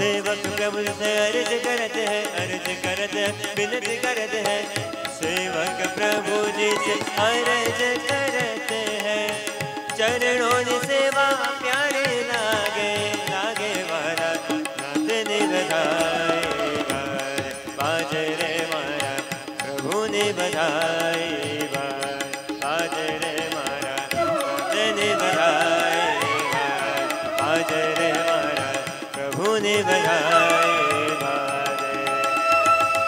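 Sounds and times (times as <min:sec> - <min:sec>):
tabla playing: 0:00.0 - 0:33.0.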